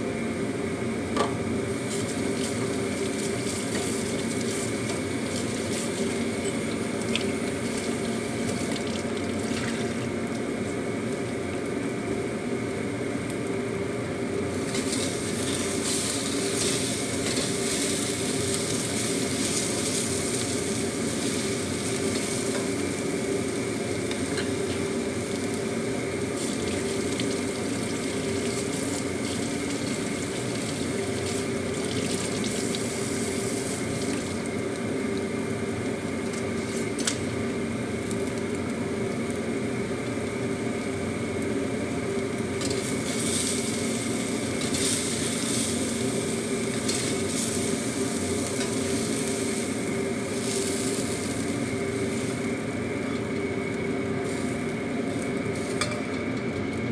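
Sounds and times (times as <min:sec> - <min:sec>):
low mechanical hum: 0:00.0 - 0:56.9
egg sizzling in a wok: 0:00.3 - 0:56.9.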